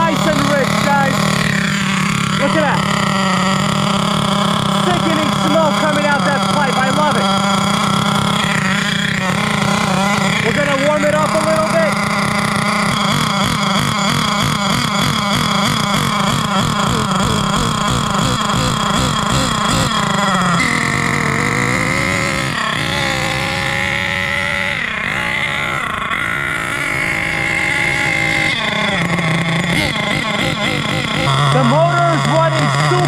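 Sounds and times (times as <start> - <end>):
small nitro engine running: 0.0 - 33.0.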